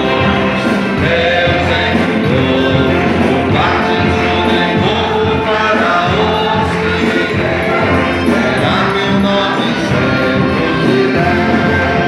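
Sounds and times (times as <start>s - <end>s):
choir singing gospel song: 0.0s - 12.0s
instrumental accompaniment: 0.0s - 12.0s.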